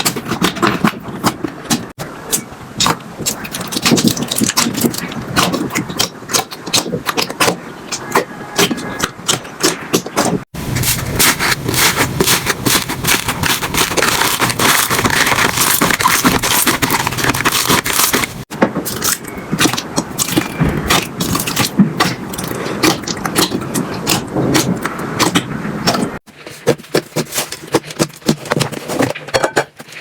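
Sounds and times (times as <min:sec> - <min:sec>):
slime squished by hand: 0:02.8 - 0:28.5.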